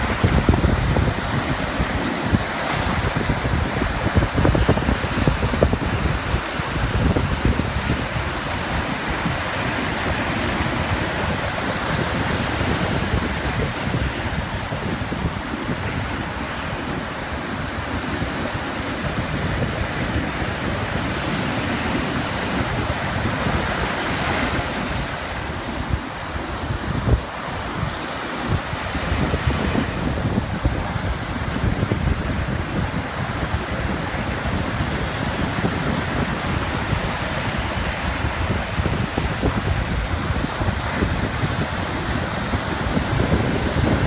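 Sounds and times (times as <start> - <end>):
small waves lapping on beach: 0.0 - 44.0
wind buffeting microphone: 0.0 - 44.0.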